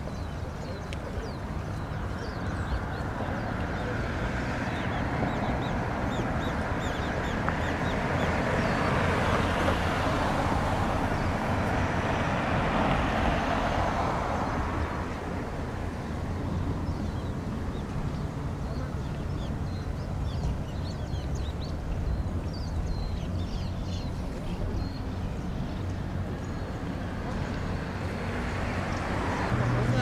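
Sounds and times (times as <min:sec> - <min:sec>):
small birds chirping: 0:00.0 - 0:12.4, 0:15.4 - 0:30.0.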